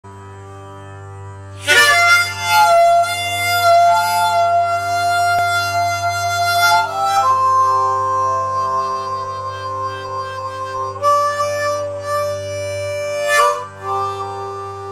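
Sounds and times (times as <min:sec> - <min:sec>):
harmonica held notes: 0:01.5 - 0:14.9.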